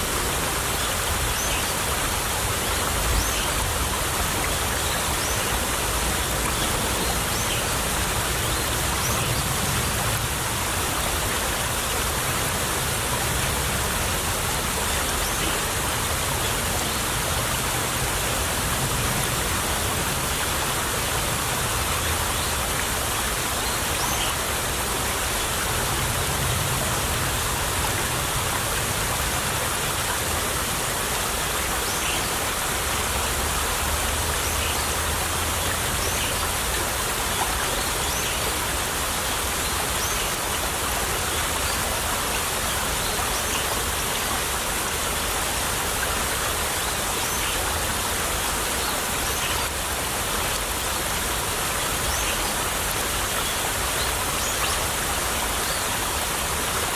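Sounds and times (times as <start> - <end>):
stream trickling and babbling: 0.0 - 56.9.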